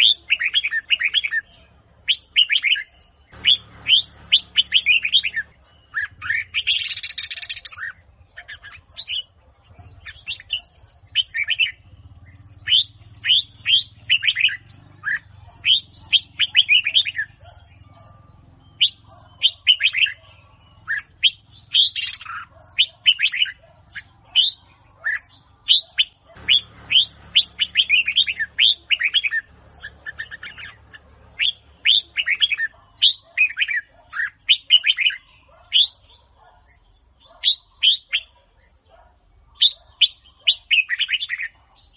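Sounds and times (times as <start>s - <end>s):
bird singing whistled notes: 0.0s - 41.9s.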